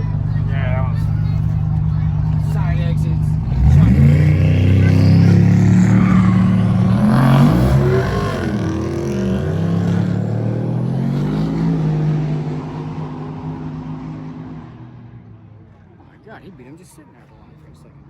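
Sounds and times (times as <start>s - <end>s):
drag race engines accelerating: 0.0s - 16.0s.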